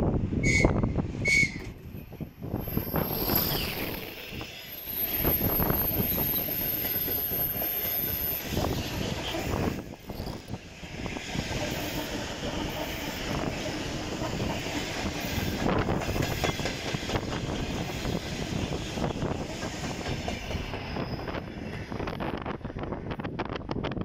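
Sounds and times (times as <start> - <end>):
electric train running past: 0.0 - 24.0
train wheels clattering over rail joints: 2.8 - 24.0.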